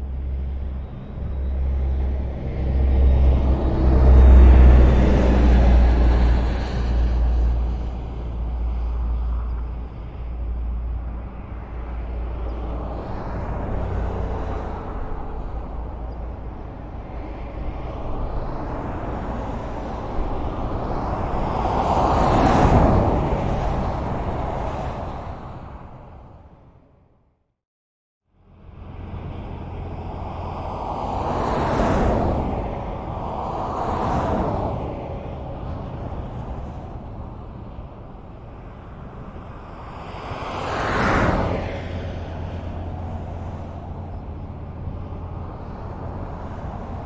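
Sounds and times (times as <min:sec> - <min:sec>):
heavy vehicle rumble: 0:00.0 - 0:27.2, 0:28.4 - 0:47.0
highway traffic rumble: 0:00.0 - 0:27.4, 0:28.3 - 0:47.0.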